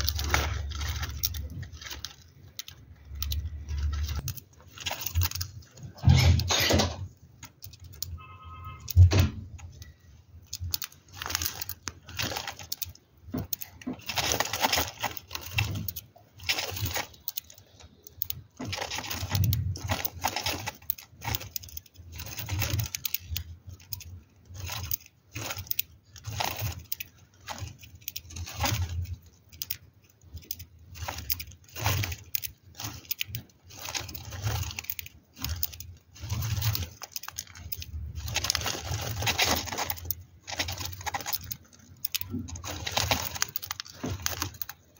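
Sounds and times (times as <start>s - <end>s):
bird pecking and husking seeds: 0.0s - 44.9s.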